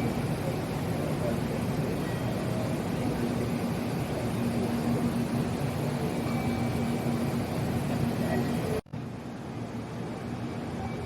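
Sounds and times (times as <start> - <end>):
faint even hum: 0.0 - 11.0
train low rumble: 0.0 - 11.0.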